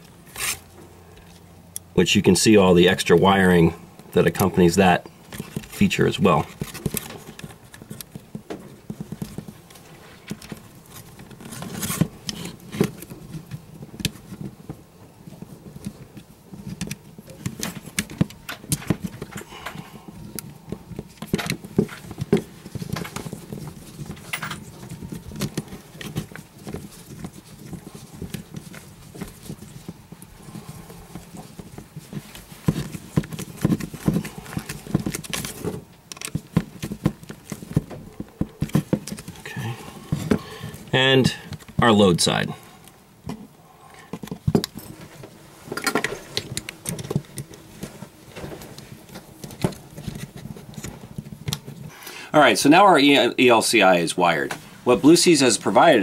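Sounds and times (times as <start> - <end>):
wires handled against plastic housing: 4.0 - 52.0.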